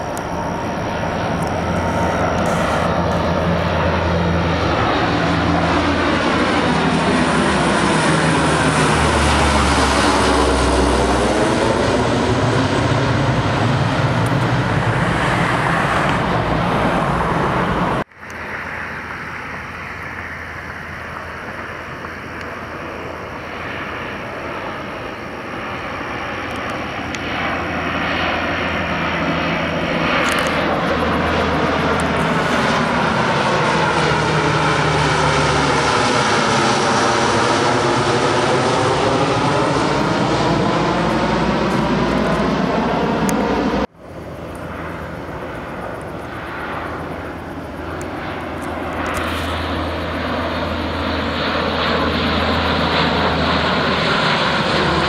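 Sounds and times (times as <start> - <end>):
turboprop plane droning past: 0.0 - 55.0.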